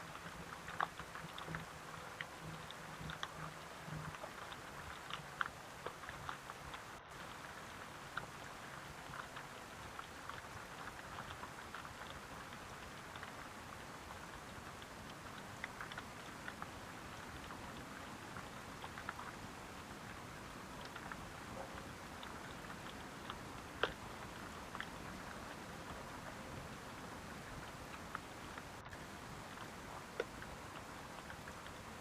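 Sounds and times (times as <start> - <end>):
raindrops pattering on a surface: 0.0 - 32.0.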